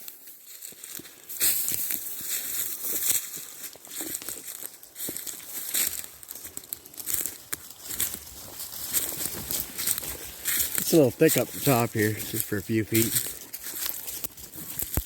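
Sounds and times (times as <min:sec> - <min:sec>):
brush rustling and twigs snapping: 0:00.0 - 0:15.0.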